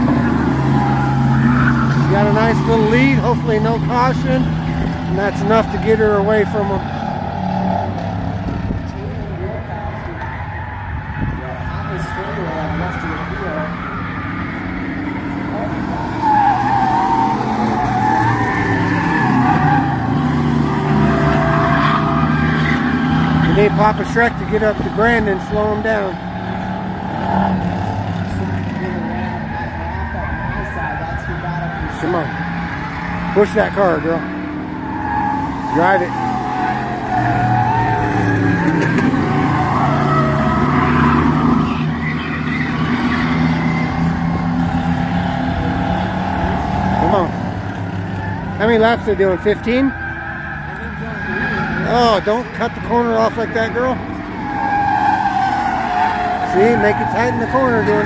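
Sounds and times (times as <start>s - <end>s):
race car engines under load: 0.0s - 58.0s.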